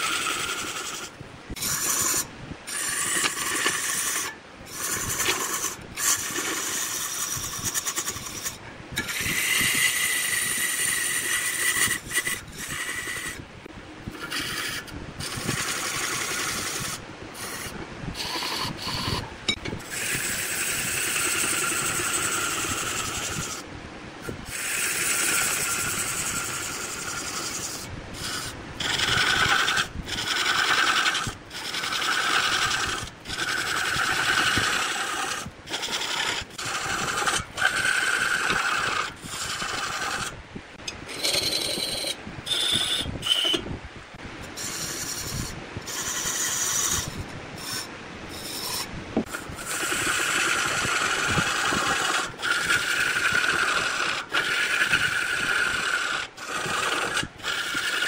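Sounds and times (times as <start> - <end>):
lathe tool scraping wood: 0.0 - 23.6, 24.2 - 43.7, 44.4 - 58.0.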